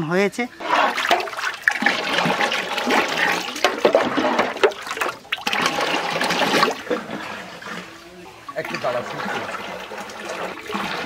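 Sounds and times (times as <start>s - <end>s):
juice pouring into a pot: 0.6s - 11.0s.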